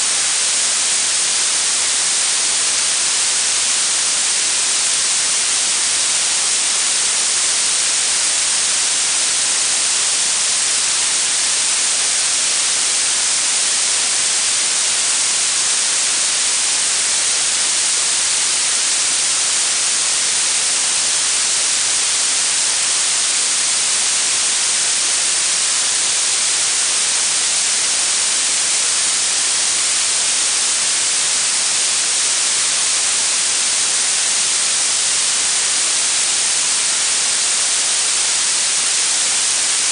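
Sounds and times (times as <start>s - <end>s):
blue noise hiss: 0.0s - 39.9s.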